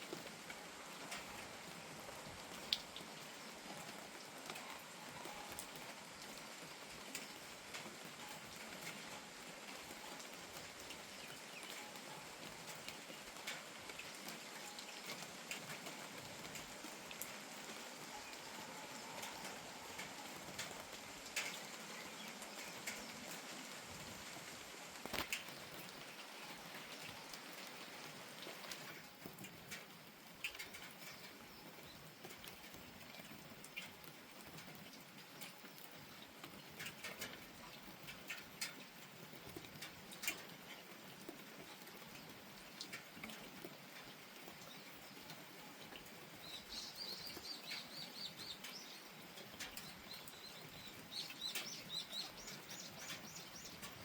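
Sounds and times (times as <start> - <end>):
soft rain falling: 0.0 - 54.0
raindrops tapping: 0.1 - 54.0.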